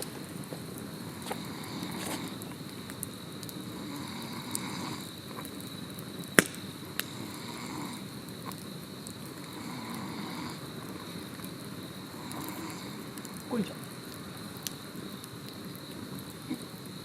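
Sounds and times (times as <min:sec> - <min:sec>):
insect trill: 0:00.0 - 0:17.0
wood fire crackling: 0:00.0 - 0:17.0.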